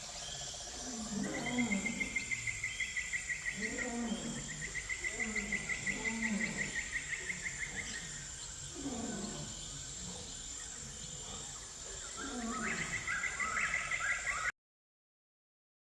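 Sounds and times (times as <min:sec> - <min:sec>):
high insect hiss: 0:00.0 - 0:14.5.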